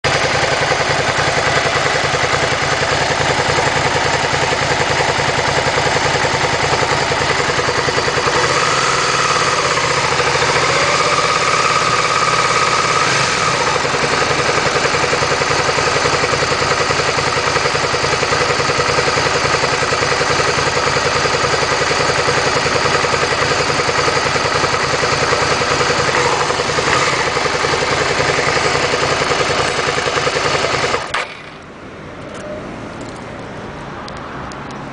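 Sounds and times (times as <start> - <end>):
motorcycle engine idling: 0.0 - 31.8.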